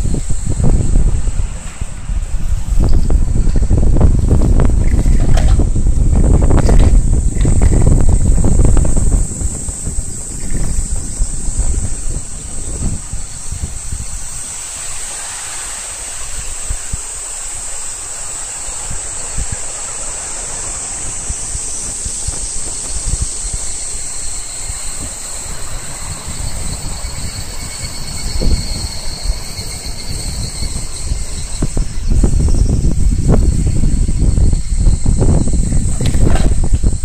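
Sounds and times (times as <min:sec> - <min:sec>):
cicadas shrilling: 0:00.0 - 0:37.0
low wind rumble: 0:00.0 - 0:37.0
lower pulsing insect call: 0:00.0 - 0:37.0.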